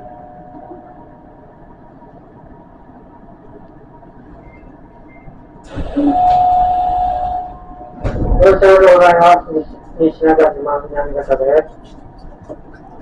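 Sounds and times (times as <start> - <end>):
loud steady held tone: 0.0 - 13.0
train faint steady hum: 0.0 - 13.0.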